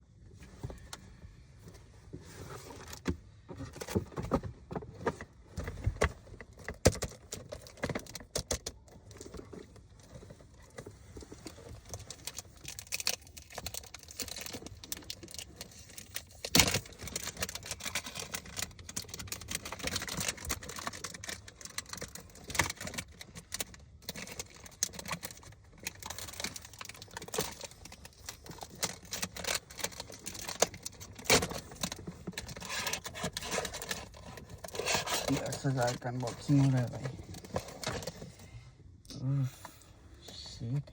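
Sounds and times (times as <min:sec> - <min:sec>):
cardboard packaging rustling: 0:02.2 - 0:38.4.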